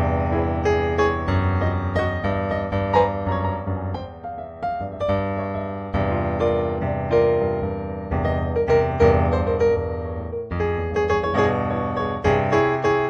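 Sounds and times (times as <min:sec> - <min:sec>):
solo piano music: 0:00.0 - 0:13.0.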